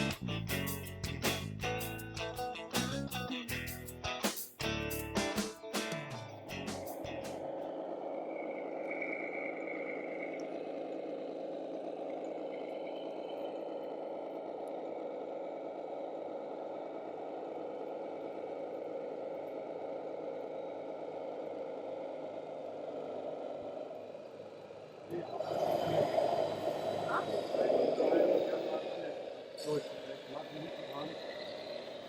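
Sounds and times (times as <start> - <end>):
faint high whine: 6.1 - 32.0
model trucks engine-like hum: 6.1 - 32.0.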